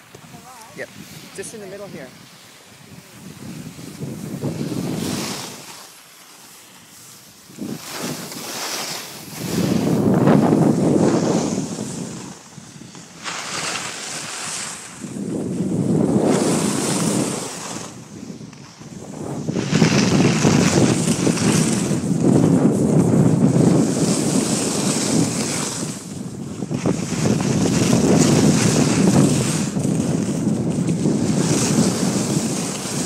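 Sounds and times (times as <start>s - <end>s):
wind on microphone: 0.0s - 5.9s, 6.9s - 33.0s
skis hissing on snow: 0.1s - 33.0s.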